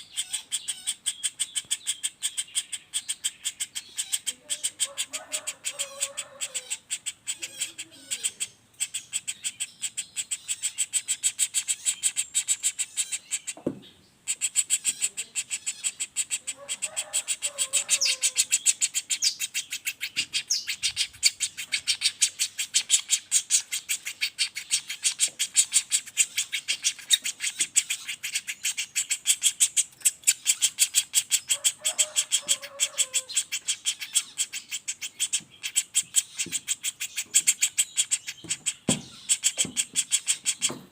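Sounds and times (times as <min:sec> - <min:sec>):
woodpecker rattling call: 0:00.0 - 0:40.9.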